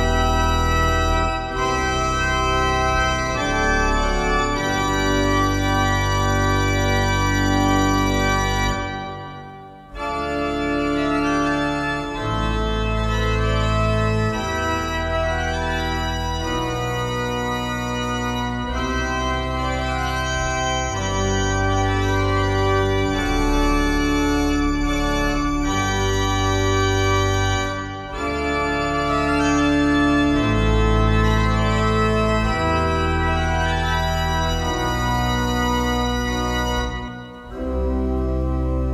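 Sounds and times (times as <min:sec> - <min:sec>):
pipe organ chords: 0:00.0 - 0:38.9.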